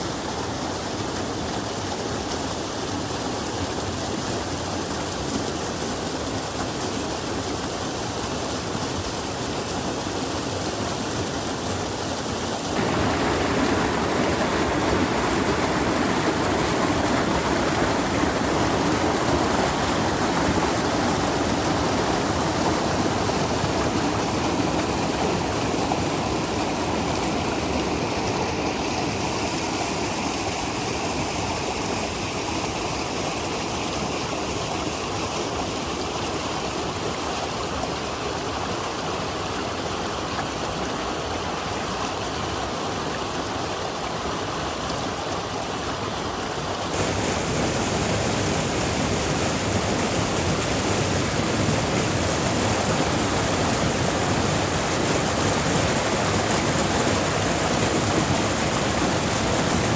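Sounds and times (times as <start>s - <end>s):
rush of running water: 0.0s - 59.9s.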